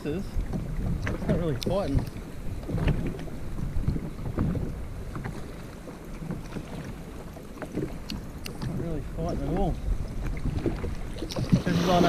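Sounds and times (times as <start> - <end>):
sea slapping against hull: 0.0 - 12.0
wind buffeting microphone: 0.0 - 12.0.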